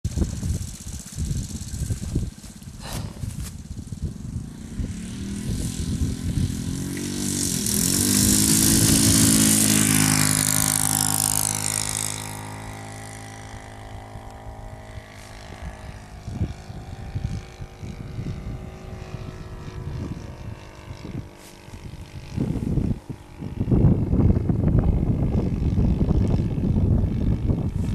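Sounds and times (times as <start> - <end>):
model plane engine passing: 0.1 - 27.9.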